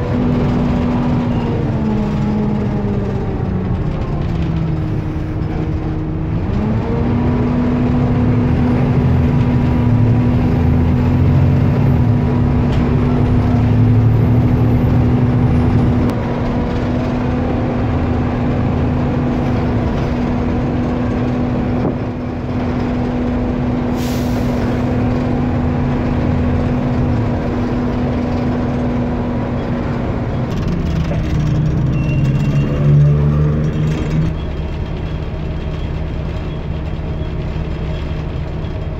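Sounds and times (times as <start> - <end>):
bus diesel engine roar: 0.0 - 38.9.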